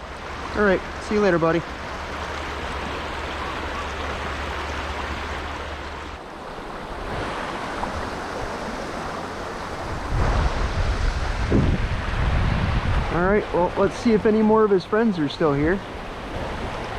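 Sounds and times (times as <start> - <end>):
wind buffeting microphone: 0.0 - 14.5
creek water flowing: 0.0 - 16.9.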